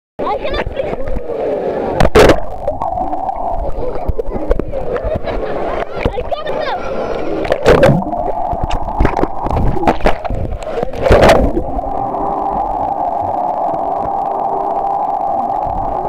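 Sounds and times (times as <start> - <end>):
water bubbling and splashing: 1.0 - 16.0
muffled underwater hum: 2.0 - 6.2, 7.1 - 16.0.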